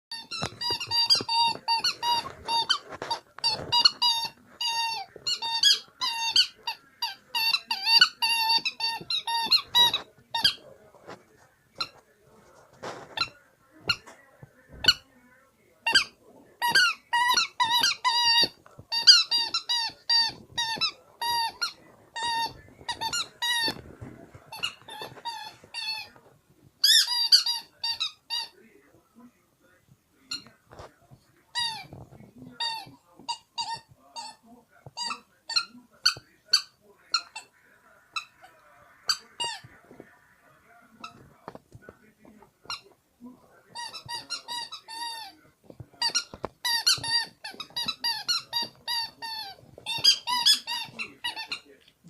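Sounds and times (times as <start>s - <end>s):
squeaky rubber toy squeaking: 0.1s - 11.1s, 12.8s - 15.0s, 15.8s - 26.2s, 26.8s - 28.6s, 30.3s - 30.8s, 31.5s - 37.5s, 38.1s - 39.7s, 41.0s - 41.6s, 42.6s - 43.0s, 43.7s - 51.7s.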